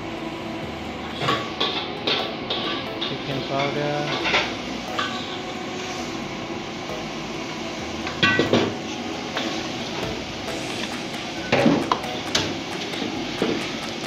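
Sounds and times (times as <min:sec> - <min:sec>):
wok burner rushing: 0:00.0 - 0:14.0.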